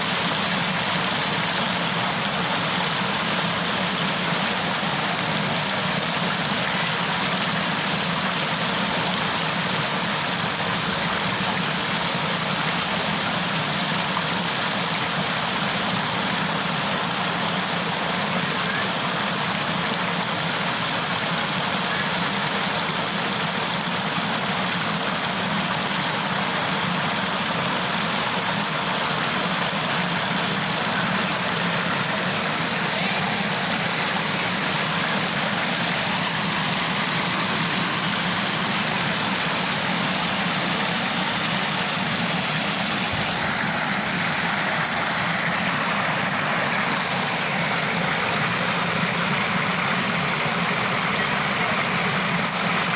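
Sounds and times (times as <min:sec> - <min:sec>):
small waterfall rushing: 0:00.0 - 0:52.9.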